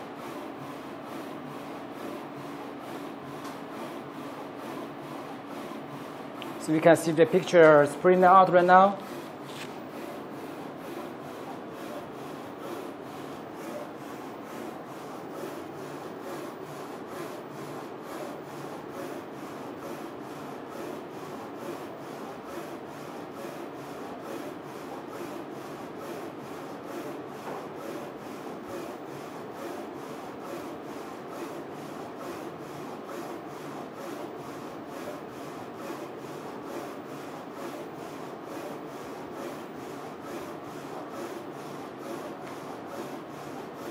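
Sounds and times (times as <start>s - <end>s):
printer whirring: 0.0s - 43.9s.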